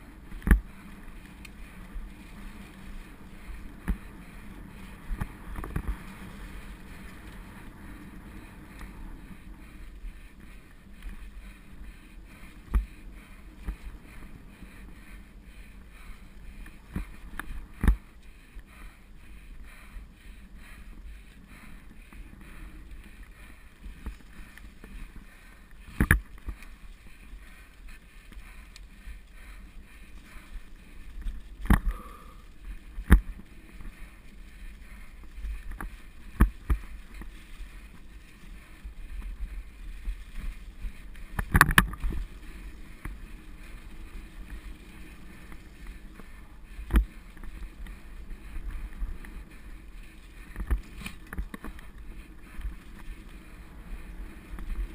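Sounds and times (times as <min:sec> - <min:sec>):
bike tyres rumbling on dirt: 0:00.0 - 0:54.9.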